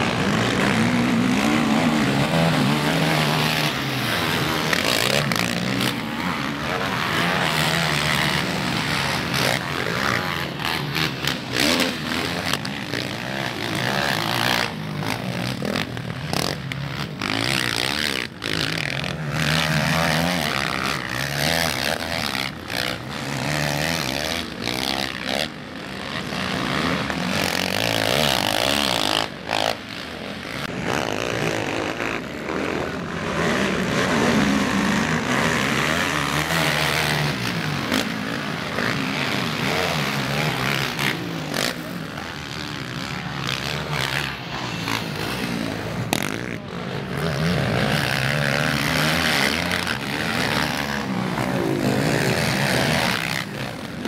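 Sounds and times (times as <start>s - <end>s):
quad bike engines revving: 0.0s - 54.0s.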